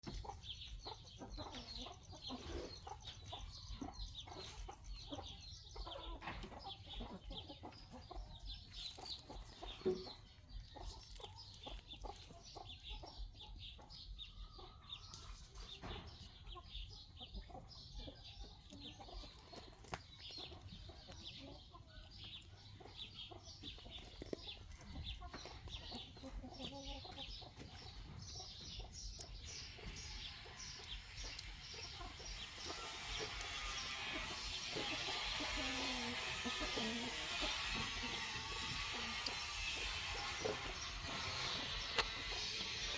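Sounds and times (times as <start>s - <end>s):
birds chattering: 0.0s - 42.9s.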